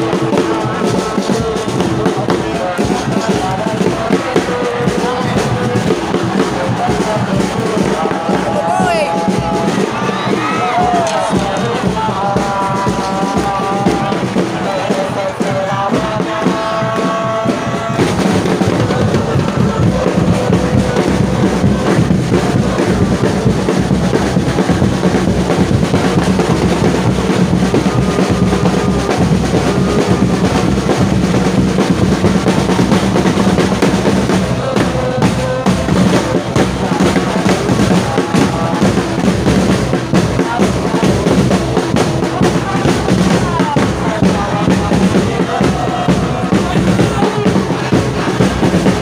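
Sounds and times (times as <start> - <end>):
crowd chanting: 0.0 - 49.0
drums beating fast: 0.0 - 49.0.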